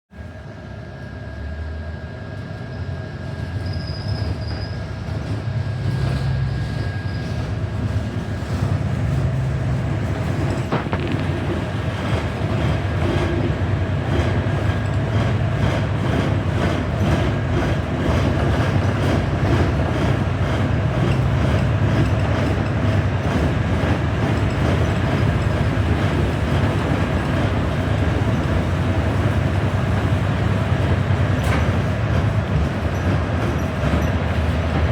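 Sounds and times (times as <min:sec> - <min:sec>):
diesel bus engine from inside: 0:04.5 - 0:34.9.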